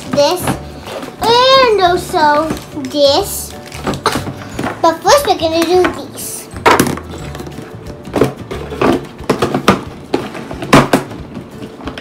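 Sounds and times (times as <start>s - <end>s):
background music with beat: 0.2s - 12.0s.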